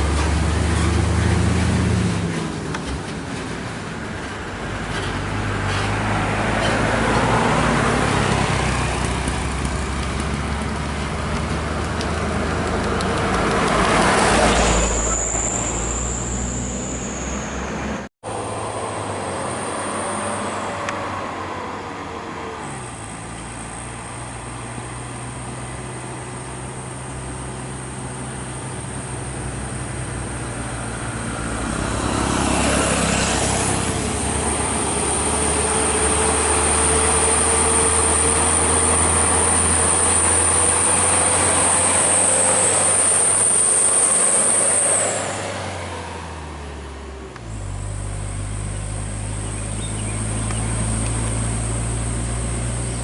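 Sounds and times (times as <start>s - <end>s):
trucks passing on highway: 0.0s - 53.0s
engine with high thin whine: 4.0s - 53.0s.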